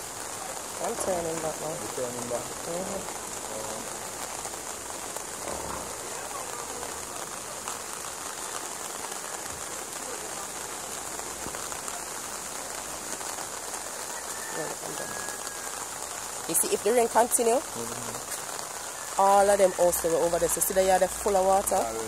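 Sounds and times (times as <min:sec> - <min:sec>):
rain on water and wet ground: 0:00.0 - 0:22.0.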